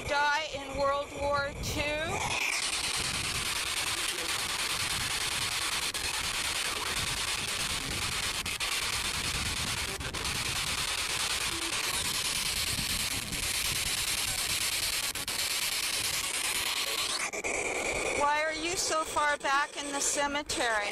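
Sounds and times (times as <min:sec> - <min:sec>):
radio static rushing: 0:00.0 - 0:20.9.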